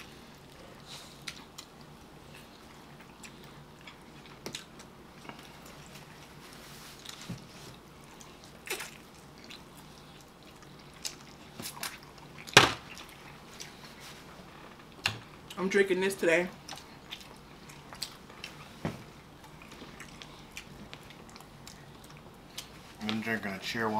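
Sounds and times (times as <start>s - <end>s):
people chewing and eating: 0.0s - 15.7s, 16.5s - 23.5s.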